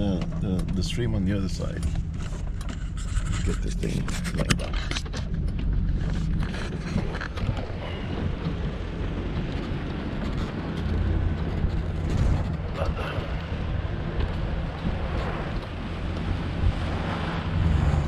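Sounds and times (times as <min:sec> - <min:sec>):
pickup truck engine running: 0:00.0 - 0:18.0.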